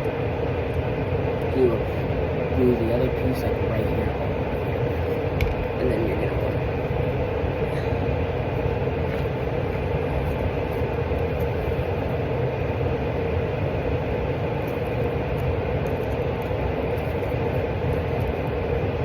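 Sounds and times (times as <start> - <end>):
constant hum: 0.0 - 19.0
low rumble and hiss: 0.0 - 19.0.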